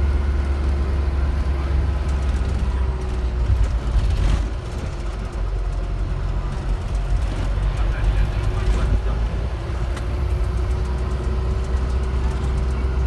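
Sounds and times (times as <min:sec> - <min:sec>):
bus engine low rumble: 0:00.0 - 0:13.0
faint engine hum: 0:00.0 - 0:13.0.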